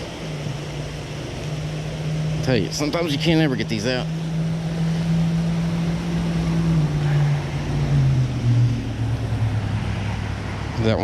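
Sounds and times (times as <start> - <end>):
faint outdoor hiss: 0.0 - 11.0
passing vehicle engine hum: 0.0 - 11.0.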